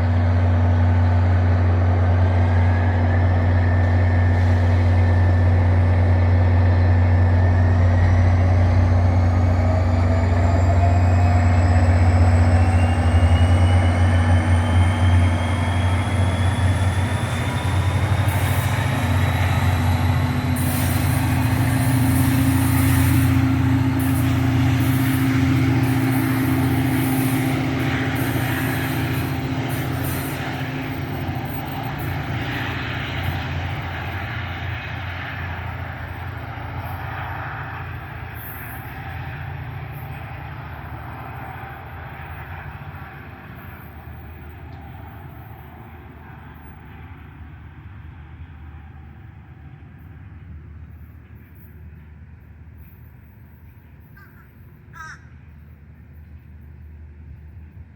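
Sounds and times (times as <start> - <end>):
wheels on rails: 0.0 - 54.9
passenger train running past: 0.0 - 57.9.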